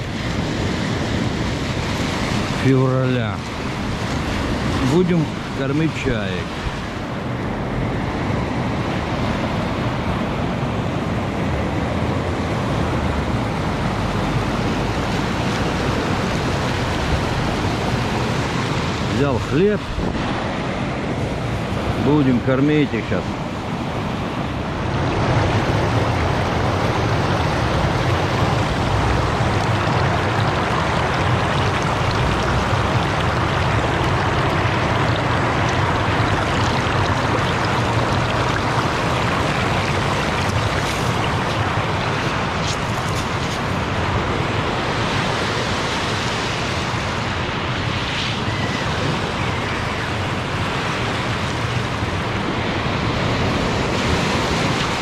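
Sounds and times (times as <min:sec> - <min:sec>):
river water rushing over pebbles: 0:00.0 - 0:55.0.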